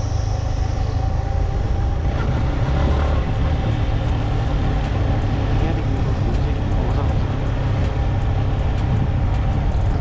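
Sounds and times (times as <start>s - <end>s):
motorcycle engine running: 0.0s - 10.0s
wind rumble on microphone: 0.0s - 10.0s.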